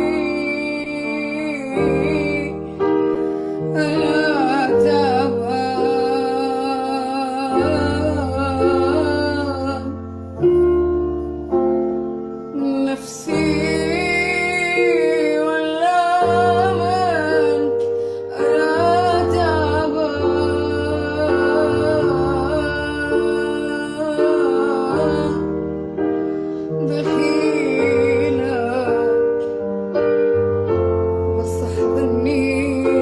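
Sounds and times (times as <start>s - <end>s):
woman singing: 0.0s - 10.7s, 12.5s - 25.8s, 26.7s - 29.6s, 31.3s - 33.0s
sustained keyboard chords: 0.0s - 33.0s.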